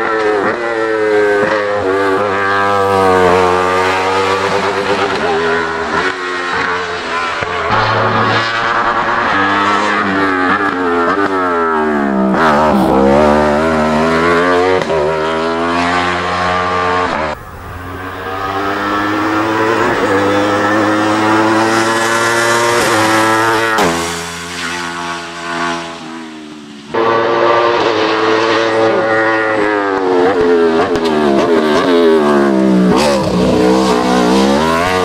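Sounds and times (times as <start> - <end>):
race car engine accelerating: 0.0 - 35.0.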